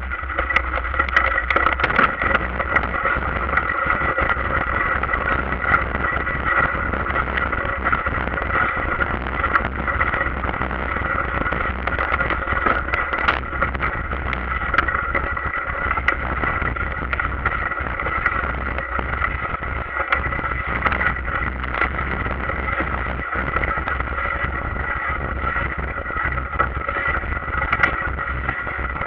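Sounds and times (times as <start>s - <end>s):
bike rolling and rattling: 0.0s - 29.0s
bike knocking over bumps: 0.2s - 29.0s.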